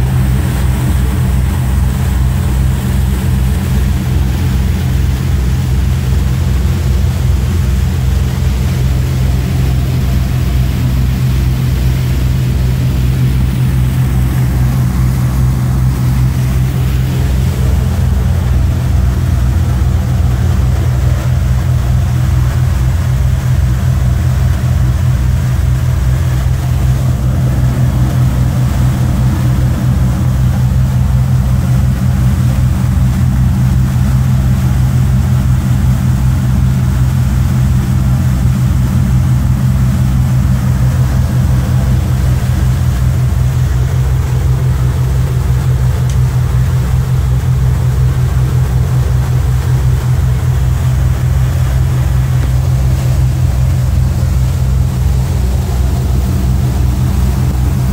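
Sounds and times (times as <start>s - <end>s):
motor boat engines droning: 0.0s - 57.9s
water noise: 0.0s - 57.9s.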